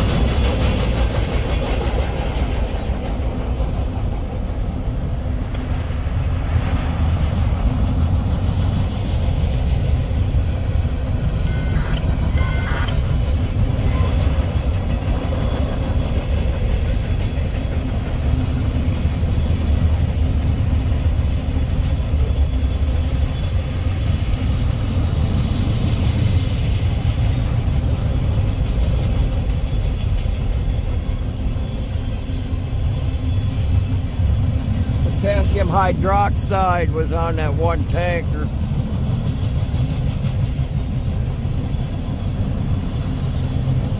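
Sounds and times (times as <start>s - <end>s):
freight train wheels clattering on rail: 0.0s - 35.2s, 38.4s - 43.9s.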